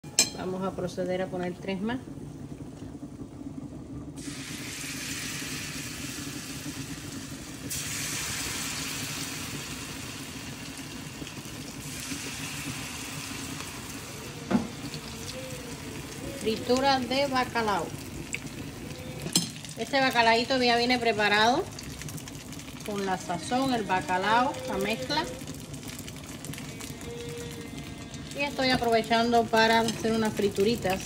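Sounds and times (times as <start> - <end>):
batter sizzling in hot oil: 0.1 - 31.0.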